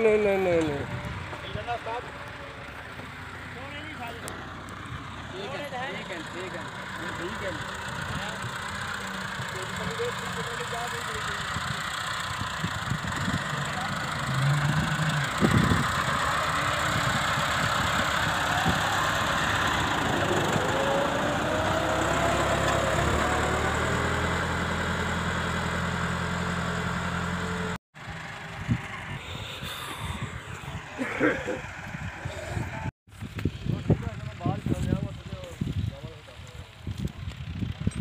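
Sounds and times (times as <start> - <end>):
tractor diesel engine under load: 0.0 - 38.0.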